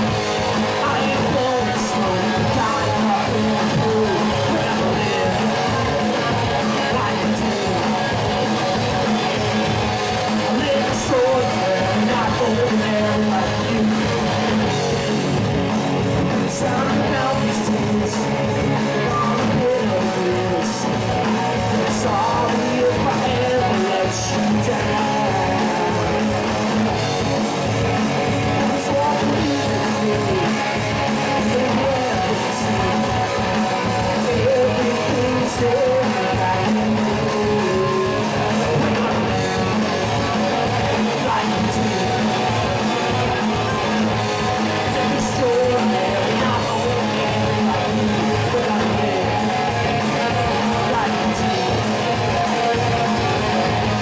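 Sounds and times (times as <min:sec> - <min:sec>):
bass guitar: 0:00.0 - 0:54.0
electric guitars: 0:00.0 - 0:54.0
man singing: 0:00.0 - 0:54.0.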